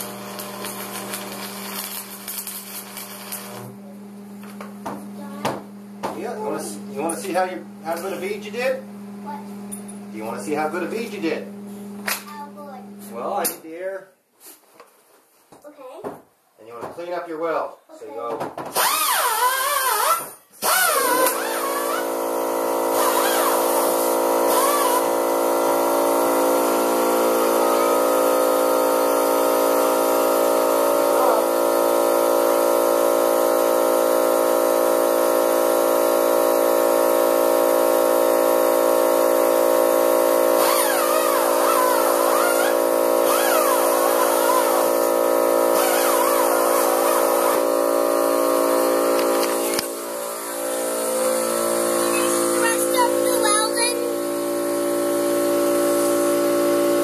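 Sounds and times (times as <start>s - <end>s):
air compressor running: 0.0s - 13.4s, 18.7s - 57.0s.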